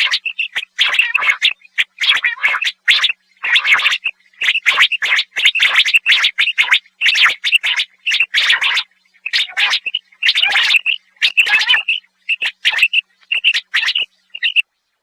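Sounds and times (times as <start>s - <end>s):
quail calling: 0.0s - 14.6s.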